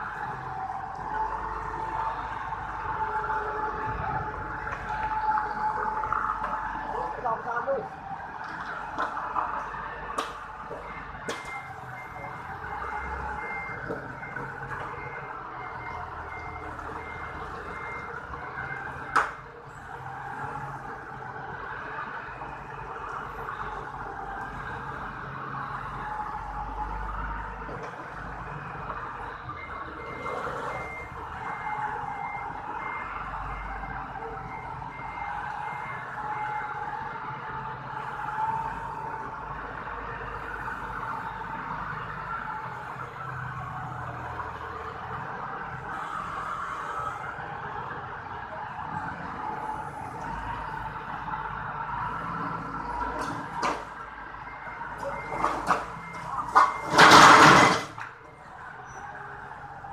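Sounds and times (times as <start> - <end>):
forklift reversing alarm beeping: 9.4 - 47.9, 48.8 - 59.9.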